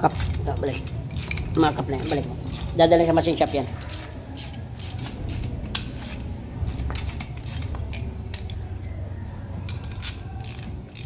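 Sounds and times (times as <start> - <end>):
metal parts clinking: 0.1 - 3.0, 3.8 - 8.7, 9.6 - 11.0.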